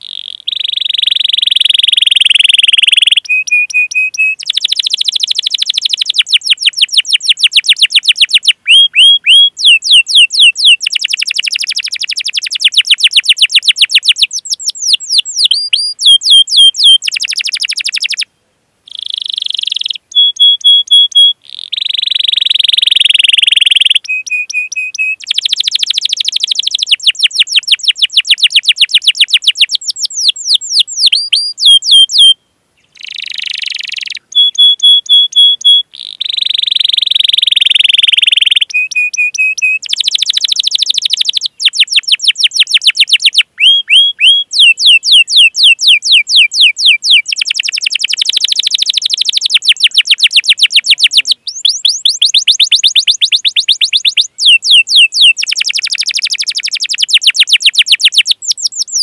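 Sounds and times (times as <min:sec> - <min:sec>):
canary singing: 0:00.0 - 0:18.3, 0:18.9 - 0:59.0.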